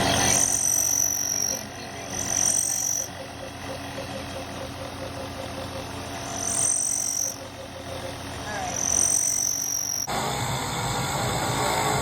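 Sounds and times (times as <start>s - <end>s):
high whine: 0.0s - 12.0s
lathe motor hum: 0.0s - 12.0s.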